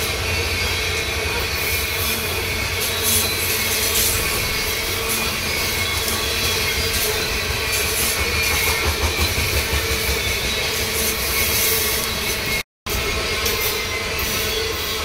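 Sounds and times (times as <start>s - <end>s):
train wheels rumbling on rails: 0.0s - 15.0s
wheels squealing: 0.0s - 15.0s.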